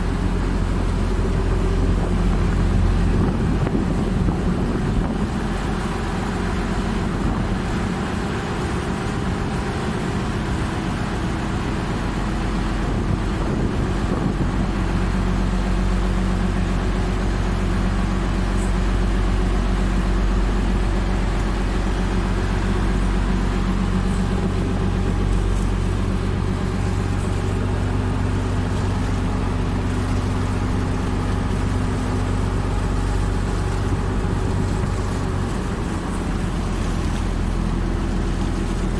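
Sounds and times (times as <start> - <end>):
ferry engine humming: 0.0 - 38.9
water noise: 0.0 - 38.9.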